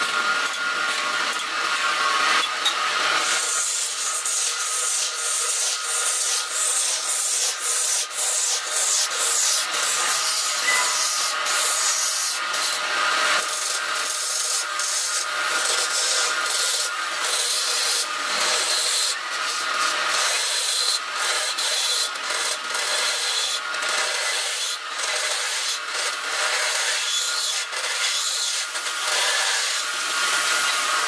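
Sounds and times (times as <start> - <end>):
chisel scraping spinning wood: 0.0 - 26.9
lathe hum: 0.0 - 26.9.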